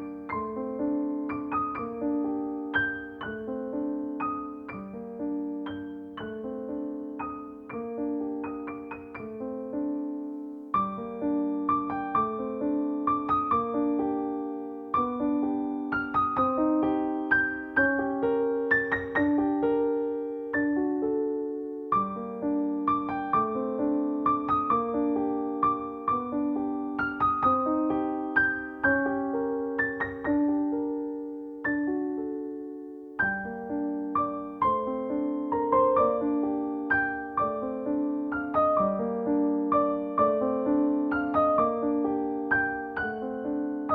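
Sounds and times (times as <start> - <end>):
gentle piano melody: 0.0 - 43.9.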